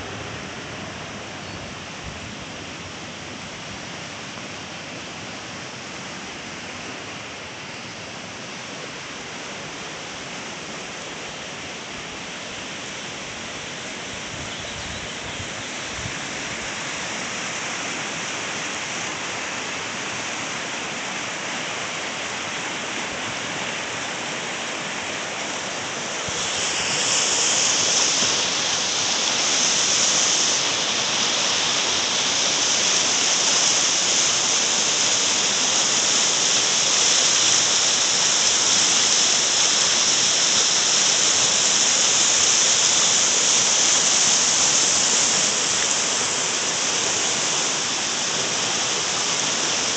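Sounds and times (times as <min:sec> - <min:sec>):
bright water hiss: 0:00.0 - 0:49.9
river rushing over stones: 0:00.0 - 0:49.9.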